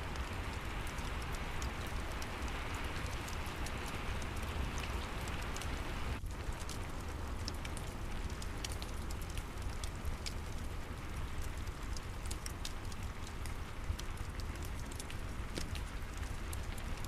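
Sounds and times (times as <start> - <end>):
fireplace crackling: 0.0 - 17.0
steady rain: 0.0 - 17.0.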